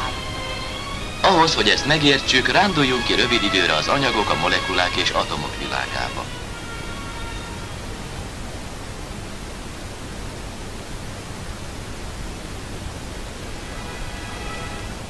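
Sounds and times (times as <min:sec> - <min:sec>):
film soundtrack hiss: 0:00.0 - 0:15.0
low hum: 0:00.0 - 0:15.0.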